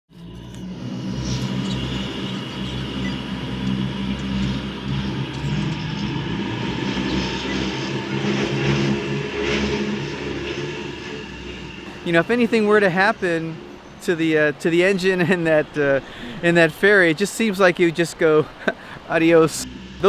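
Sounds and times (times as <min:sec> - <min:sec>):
ferry engine humming: 0:00.1 - 0:20.0.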